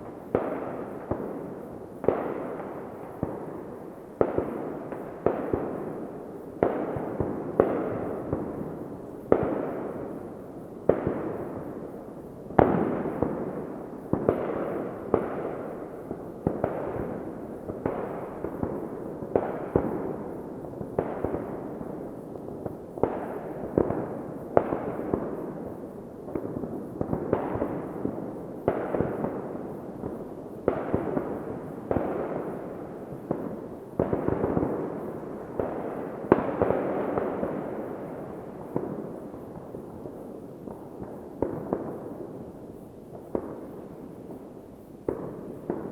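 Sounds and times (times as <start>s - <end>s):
fireworks bangs with rolling echo: 0.0s - 45.9s.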